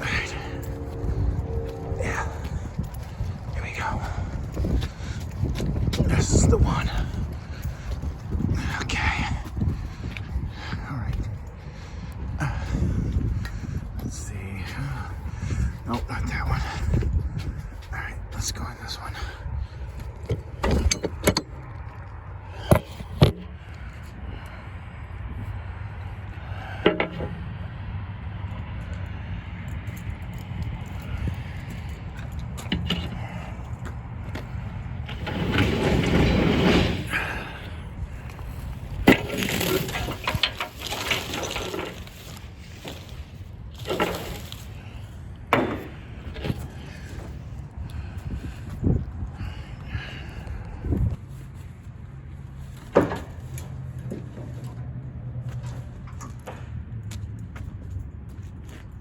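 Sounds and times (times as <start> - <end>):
low rumble: 0.0 - 52.8.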